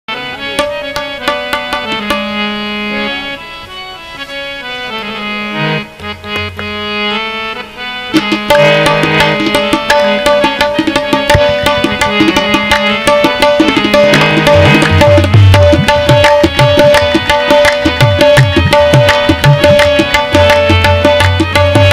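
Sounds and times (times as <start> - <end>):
harmonium melody: 0.1 - 21.9
tabla strokes: 0.4 - 3.0, 5.5 - 7.2, 8.1 - 21.9.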